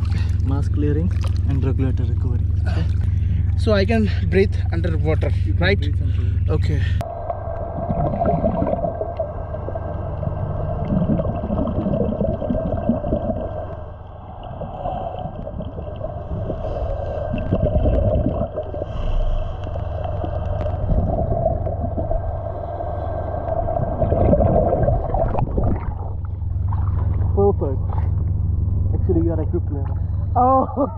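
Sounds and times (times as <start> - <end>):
regulator bubbles gurgling: 0.0 - 30.4
steady low hum: 0.0 - 30.9.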